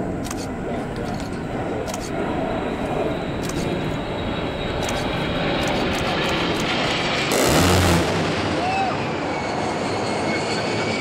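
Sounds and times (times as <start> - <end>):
high-pitched engine whine: 0.0 - 11.0
jet engines passing overhead: 0.0 - 11.0.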